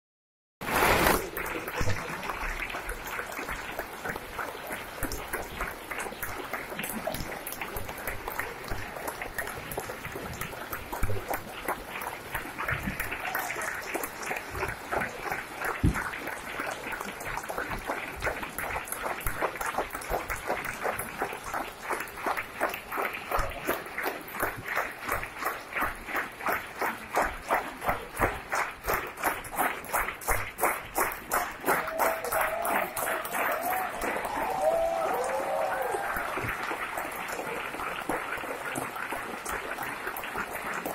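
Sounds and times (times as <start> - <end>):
audience applauding: 0.7 - 40.9.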